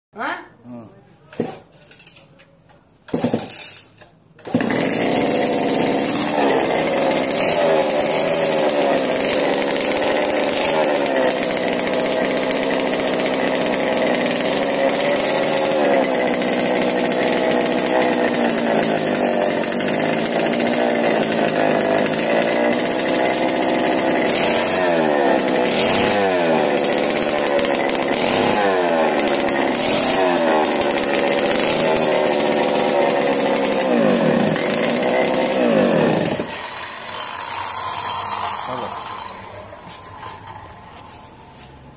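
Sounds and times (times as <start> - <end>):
chainsaw engine revving: 3.1 - 41.8.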